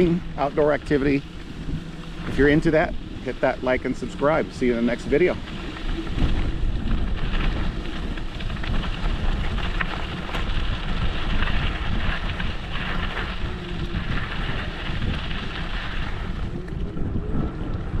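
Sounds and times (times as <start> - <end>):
scooter tyres rumbling: 0.0 - 18.0
wind buffeting microphone: 0.0 - 18.0.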